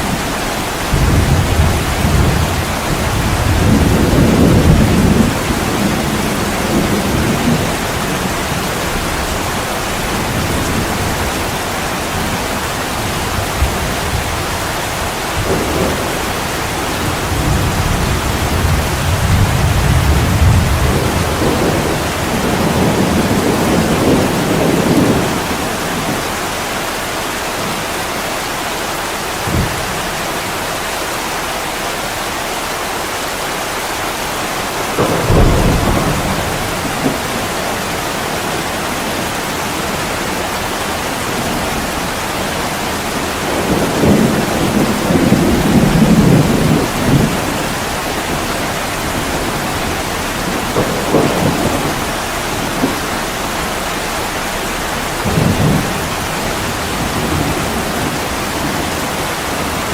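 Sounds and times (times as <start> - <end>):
low thunder rolls: 0.0 - 26.5, 34.5 - 59.9
heavy rain pouring: 0.0 - 59.9.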